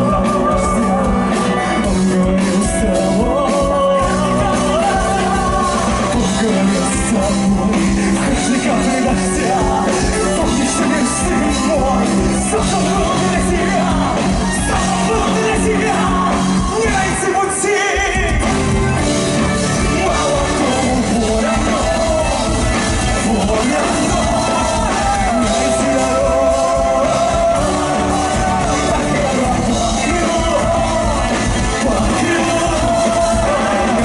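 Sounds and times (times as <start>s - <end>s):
live rock band: 0.0s - 34.0s
person singing: 0.0s - 34.0s.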